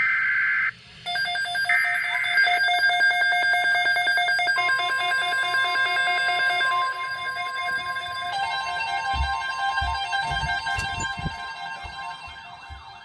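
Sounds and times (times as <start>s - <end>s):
steady warning tone: 1.1s - 13.0s.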